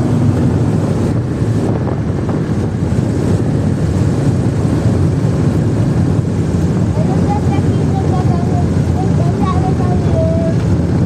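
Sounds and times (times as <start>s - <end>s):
jet engine rumble inside cabin: 0.0s - 11.0s.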